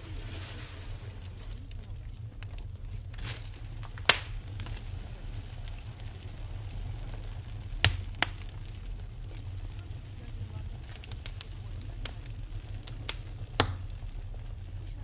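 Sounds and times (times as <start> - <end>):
fire popping and crackling: 0.0 - 15.0
wood fire rumbling: 0.0 - 15.0.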